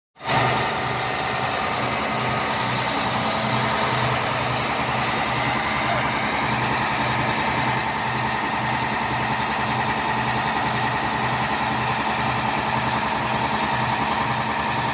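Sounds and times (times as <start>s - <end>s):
drilling rig engine throbbing: 0.2s - 14.9s.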